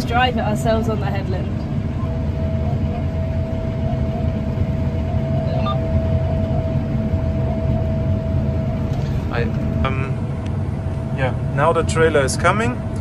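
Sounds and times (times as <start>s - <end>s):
combine harvester rumble: 0.0s - 13.0s.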